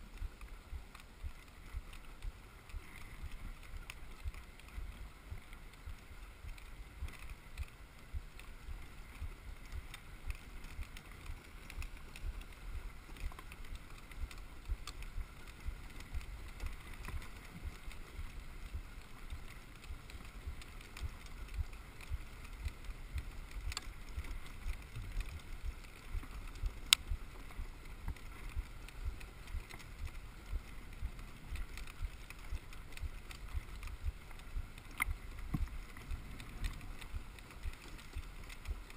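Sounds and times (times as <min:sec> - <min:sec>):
sled runners scraping snow: 0:00.0 - 0:38.9.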